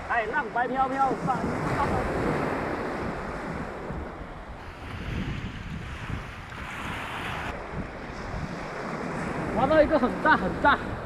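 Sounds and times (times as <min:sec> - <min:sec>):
sea waves washing in: 0:00.0 - 0:11.0
wind rumbling on microphone: 0:00.0 - 0:11.0.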